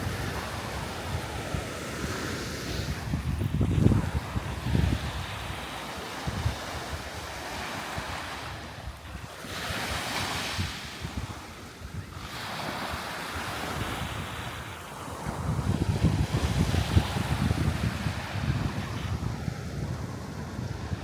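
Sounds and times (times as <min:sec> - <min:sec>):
sea waves washing onto shore: 0:00.0 - 0:21.0
wind gusting on microphone: 0:00.0 - 0:21.0.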